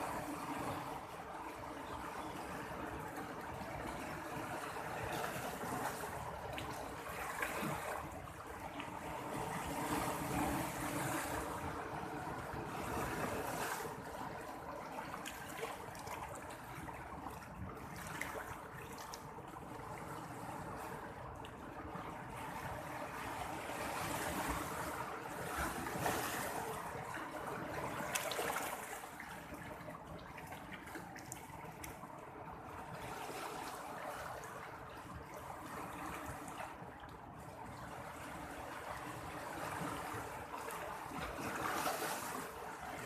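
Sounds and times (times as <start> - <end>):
seawater lapping and splashing: 0.0 - 43.0.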